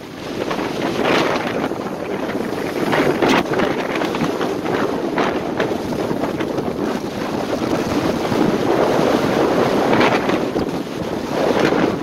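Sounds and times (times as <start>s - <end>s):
sea splashing against seawall: 0.0s - 12.0s
wind buffeting microphone: 0.0s - 12.0s.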